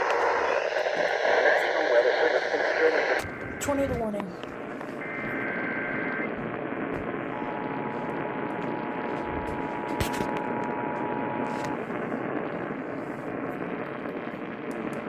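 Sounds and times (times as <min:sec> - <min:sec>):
radio reception hiss: 0:00.0 - 0:15.0.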